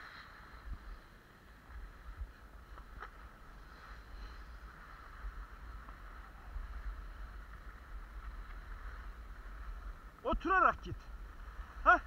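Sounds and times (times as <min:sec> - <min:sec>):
skis sliding over snow: 0:00.0 - 0:12.0
wind rumbling on microphone: 0:00.0 - 0:12.0.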